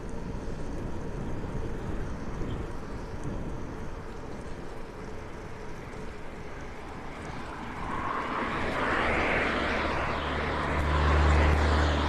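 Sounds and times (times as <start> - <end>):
bicycle riding rushing noise: 0.0 - 12.0
engine low drone: 0.0 - 12.0.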